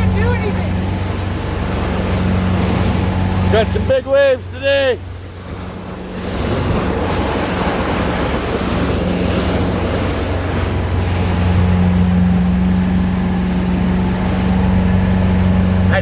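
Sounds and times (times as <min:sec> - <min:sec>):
boat engine hum: 0:00.0 - 0:16.0
wind and water rushing: 0:00.0 - 0:16.0.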